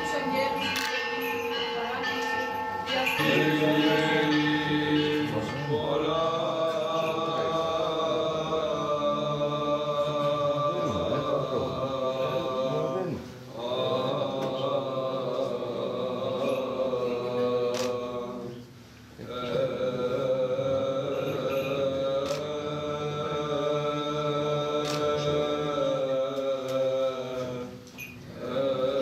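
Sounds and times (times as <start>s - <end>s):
chant in long held notes: 0.0s - 29.0s.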